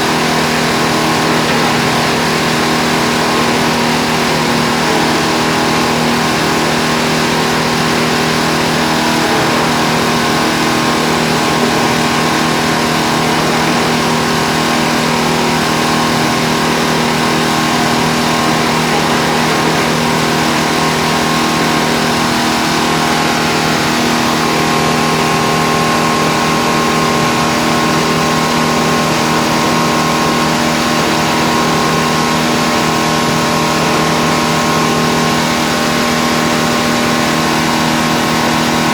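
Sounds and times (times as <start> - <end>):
stone crusher running: 0.0 - 38.9.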